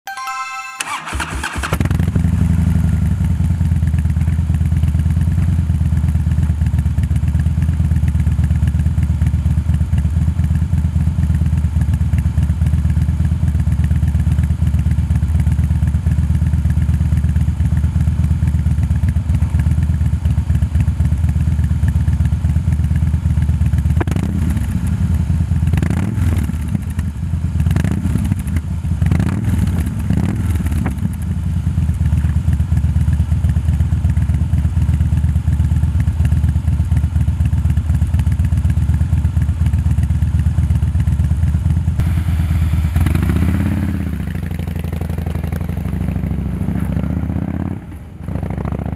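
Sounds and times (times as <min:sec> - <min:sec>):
motorcycle engine idling: 0:01.4 - 0:25.8, 0:26.5 - 0:29.1, 0:29.9 - 0:48.9.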